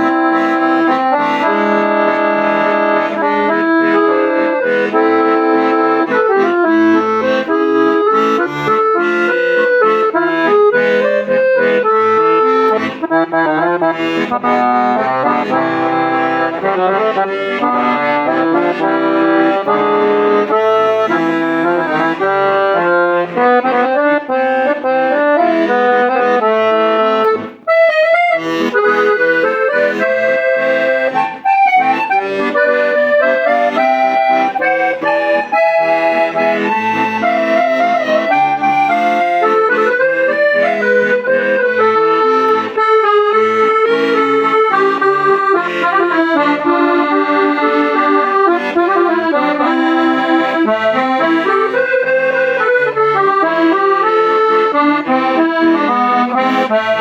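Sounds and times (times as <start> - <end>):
accordion melody over chords: 0.0 - 57.0.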